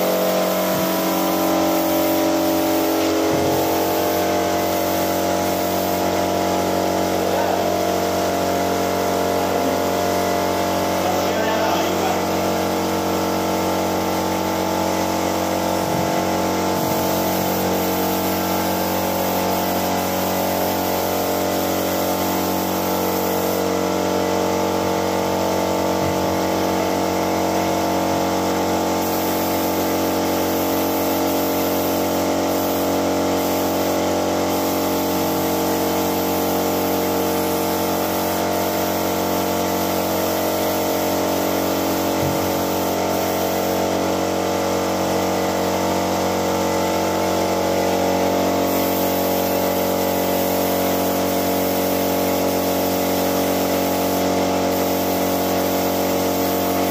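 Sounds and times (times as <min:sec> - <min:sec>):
spray gun hissing: 0:00.0 - 0:46.0, 0:48.2 - 0:56.9
air compressor motor hum: 0:00.0 - 0:56.9.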